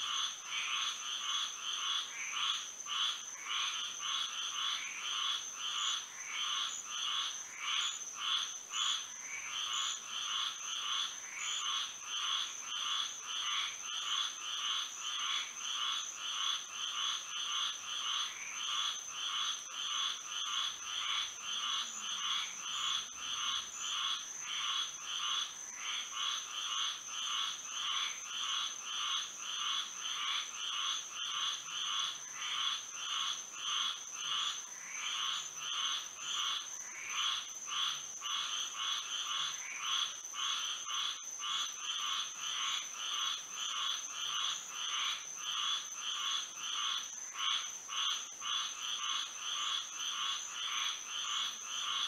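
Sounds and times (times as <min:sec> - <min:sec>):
frogs calling: 0:00.0 - 0:52.0.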